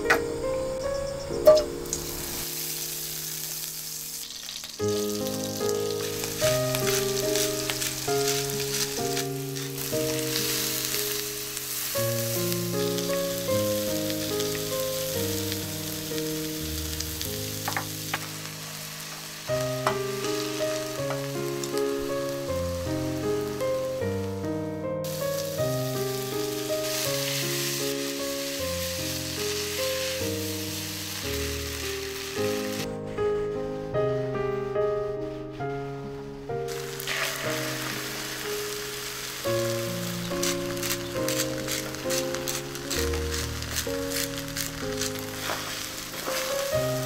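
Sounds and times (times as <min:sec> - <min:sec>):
background music: 0:00.0 - 0:47.0
onions sizzling in a pan: 0:00.3 - 0:24.4, 0:25.0 - 0:32.9, 0:36.7 - 0:47.0.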